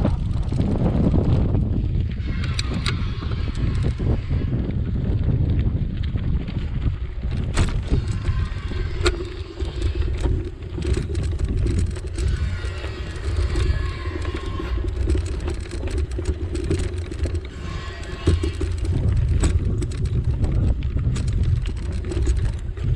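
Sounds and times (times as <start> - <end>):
bicycle clicks and rattles: 0.0 - 22.9
road and wind rumble: 0.0 - 22.9.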